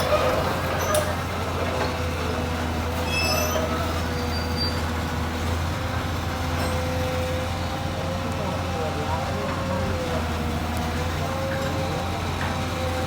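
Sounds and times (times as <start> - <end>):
excavator diesel drone: 0.0 - 13.0.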